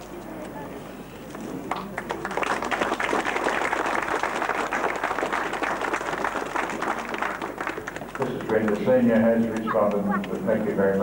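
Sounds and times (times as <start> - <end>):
crowd applauding: 1.7 - 11.0.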